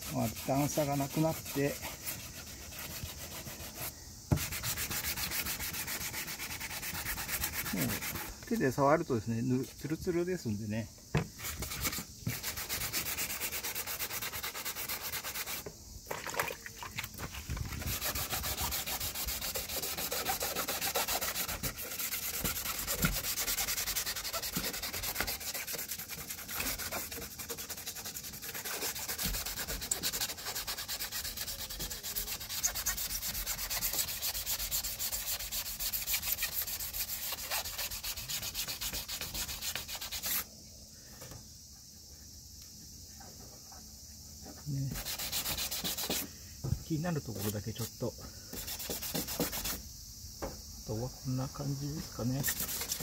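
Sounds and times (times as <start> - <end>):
sandpaper rubbing hiss: 0.0 - 10.3, 11.2 - 15.8, 17.2 - 40.6, 42.0 - 50.1, 50.9 - 53.0.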